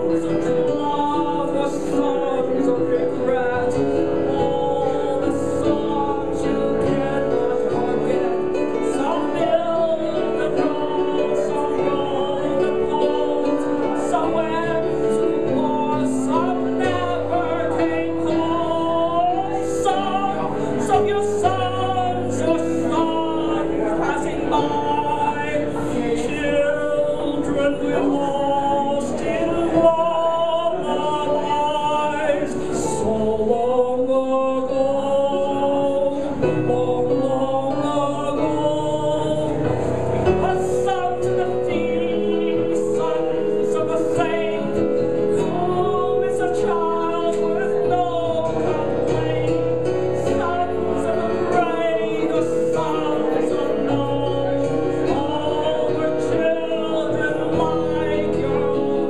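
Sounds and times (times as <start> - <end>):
piano accompaniment: 0.0 - 59.0.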